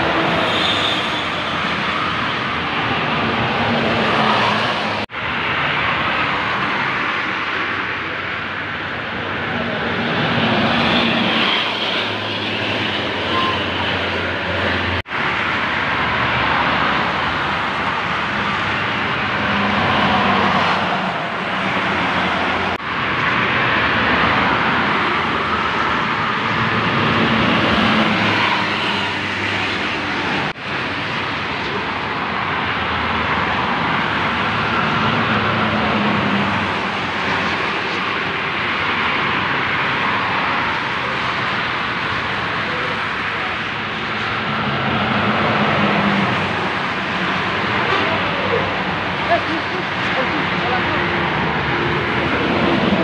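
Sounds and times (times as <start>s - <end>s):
highway traffic rushing past: 0.0s - 53.0s.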